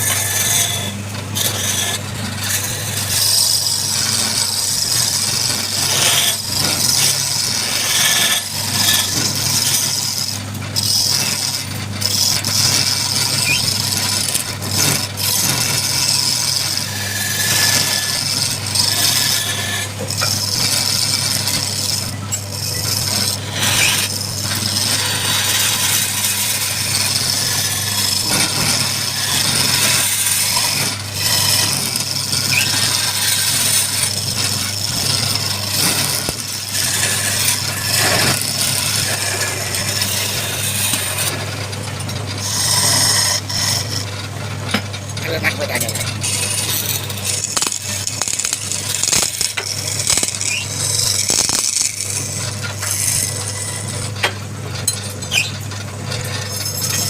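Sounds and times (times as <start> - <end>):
turning tool scraping wood: 0.0 - 57.0
wood lathe motor hum: 0.0 - 57.0.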